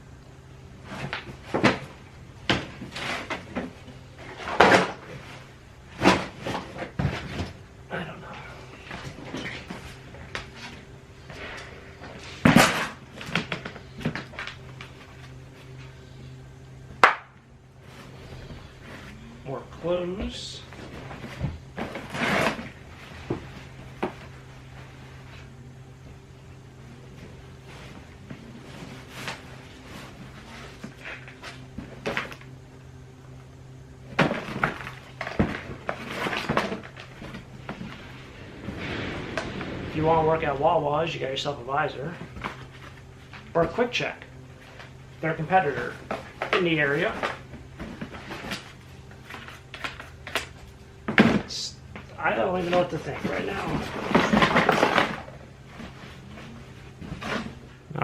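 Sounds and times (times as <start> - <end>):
faint steady hum: 0.0 - 58.0
items clattering and rustling: 0.8 - 15.9, 20.1 - 26.2, 26.8 - 32.6, 34.0 - 57.8.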